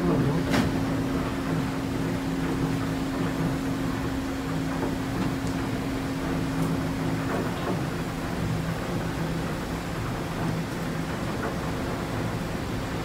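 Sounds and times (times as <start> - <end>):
constant machine tone: 0.0 - 13.0.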